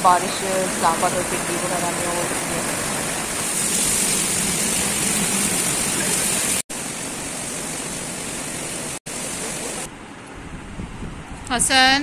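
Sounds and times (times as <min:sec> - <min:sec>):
heavy rain pouring: 0:00.0 - 0:09.9.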